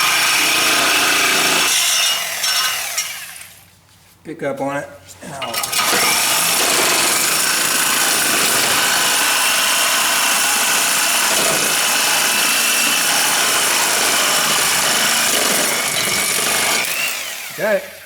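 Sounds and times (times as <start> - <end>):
power tool running: 0.0 - 3.6, 5.5 - 18.0.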